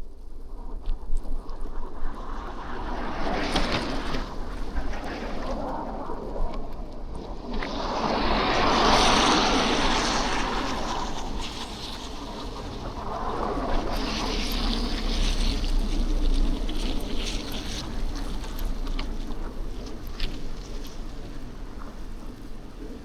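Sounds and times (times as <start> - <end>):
low rumble of traffic: 3.9 - 23.0.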